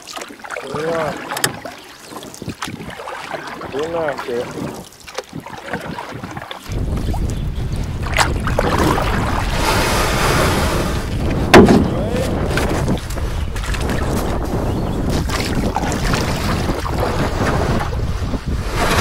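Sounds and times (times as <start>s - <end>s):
water rushing along canoe hull: 0.0s - 19.0s
wind buffeting microphone: 0.8s - 19.0s.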